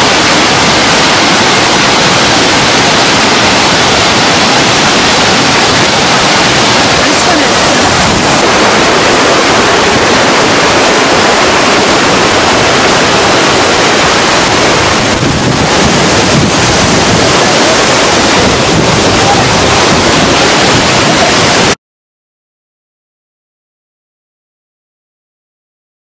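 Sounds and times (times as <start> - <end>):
water rushing over spillway: 0.0 - 21.8.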